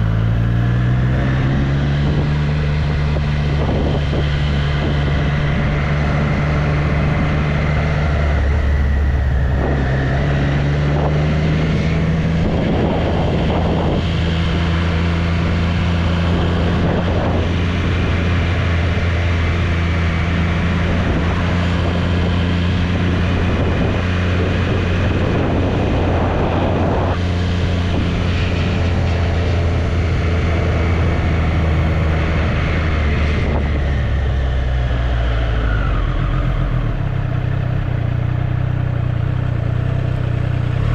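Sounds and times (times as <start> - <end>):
wind rushing over microphone: 0.0 - 38.4
motorcycle engine running: 0.0 - 40.9.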